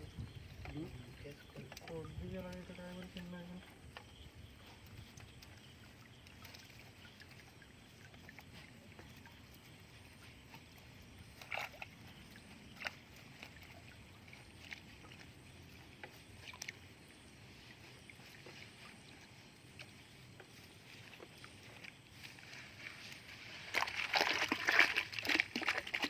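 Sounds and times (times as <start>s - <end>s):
creek water lapping: 0.0s - 26.0s.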